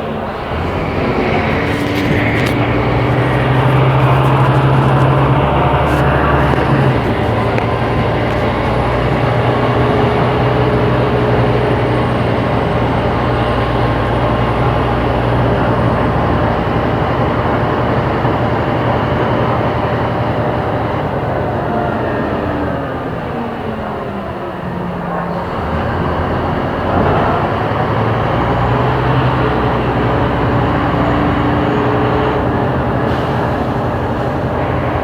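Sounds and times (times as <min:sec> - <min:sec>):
bus diesel engine droning: 0:00.0 - 0:35.0.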